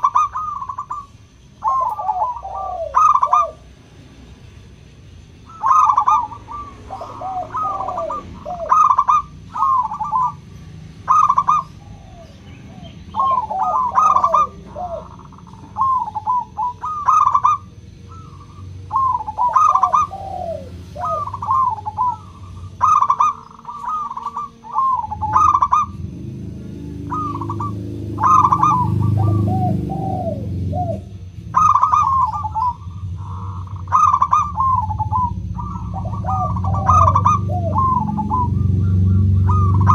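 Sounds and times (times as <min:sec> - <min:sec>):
dove cooing: 0:00.0 - 0:03.8, 0:05.4 - 0:39.9
low background rumble: 0:00.0 - 0:39.9.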